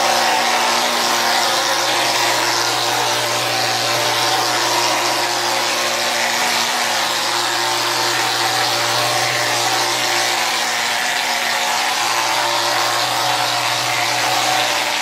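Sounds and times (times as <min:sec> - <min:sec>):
spray gun hissing: 0:00.0 - 0:15.0.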